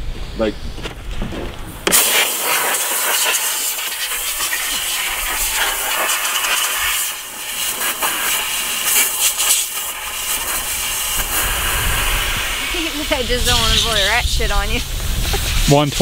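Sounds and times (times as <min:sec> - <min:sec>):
compressed air hissing: 0:01.8 - 0:16.0.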